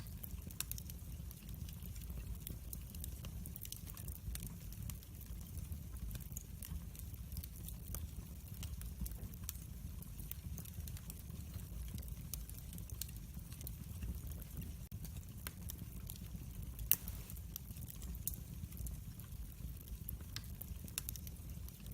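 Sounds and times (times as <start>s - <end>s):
low rumble of flames: 0.0s - 21.9s
wood fire crackling and popping: 0.0s - 21.9s.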